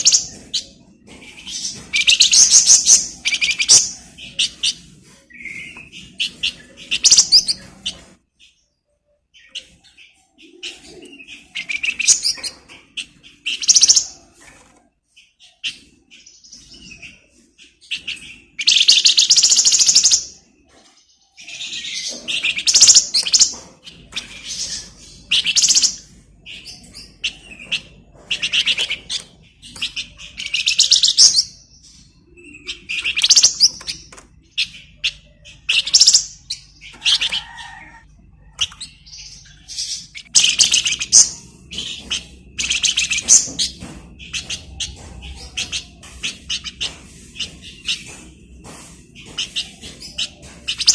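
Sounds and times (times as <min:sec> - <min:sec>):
bird chirps: 0:00.0 - 0:14.6, 0:15.4 - 0:50.9.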